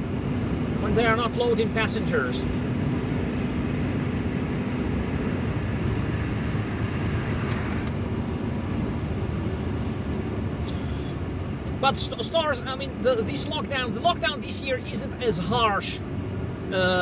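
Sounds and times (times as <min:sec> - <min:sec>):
car engine low hum: 0:00.0 - 0:17.0
tyres on road: 0:00.0 - 0:17.0.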